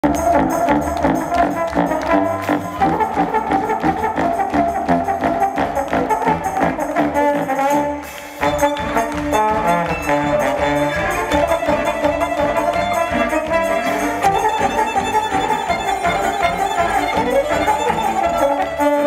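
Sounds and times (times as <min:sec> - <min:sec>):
string orchestra: 0:00.0 - 0:19.0
trombone melody: 0:00.0 - 0:19.0.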